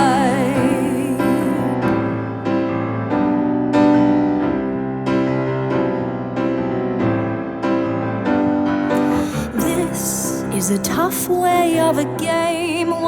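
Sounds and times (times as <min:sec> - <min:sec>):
solo piano playing: 0:00.0 - 0:13.0.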